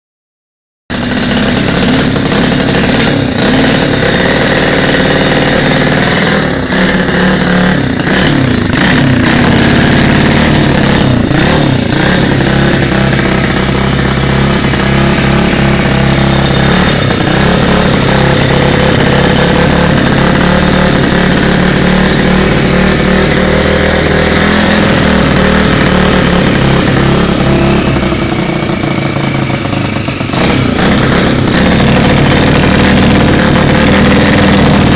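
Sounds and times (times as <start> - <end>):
small motorcycle engine revving: 0.9 - 34.9.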